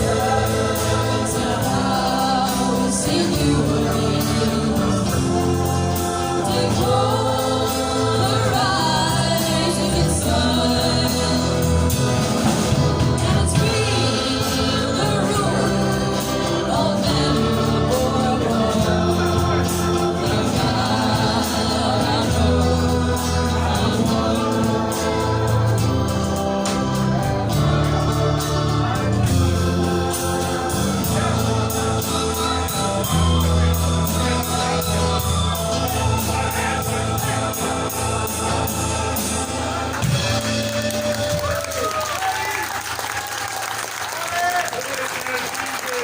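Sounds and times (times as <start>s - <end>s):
live band music: 0.0s - 46.0s
voices singing: 0.0s - 46.0s.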